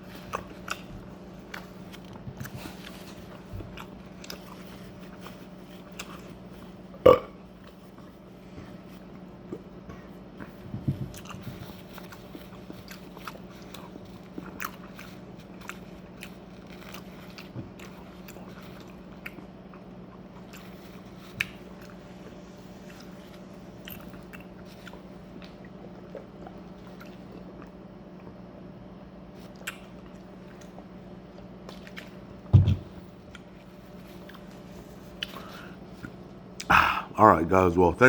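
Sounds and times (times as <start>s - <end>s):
person chewing: 0.0s - 28.4s, 29.3s - 32.5s, 33.3s - 37.1s
steady low hum: 0.0s - 38.0s.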